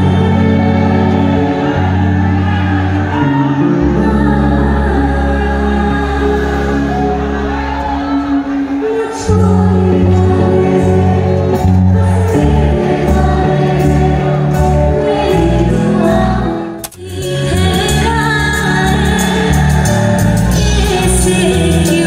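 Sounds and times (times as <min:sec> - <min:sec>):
woman singing into a microphone: 0:00.0 - 0:01.8, 0:03.1 - 0:22.0
live band music: 0:00.0 - 0:22.0.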